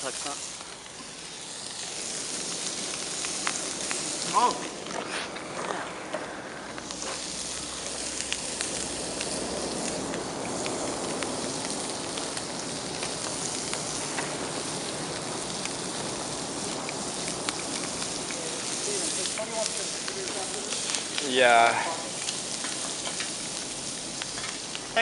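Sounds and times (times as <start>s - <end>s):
meat sizzling on a grill: 0.0s - 25.0s.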